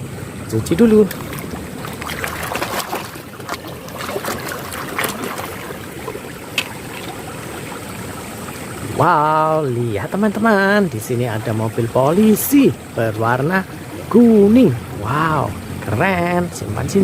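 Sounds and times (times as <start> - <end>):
water sloshing and splashing: 0.2 - 17.0.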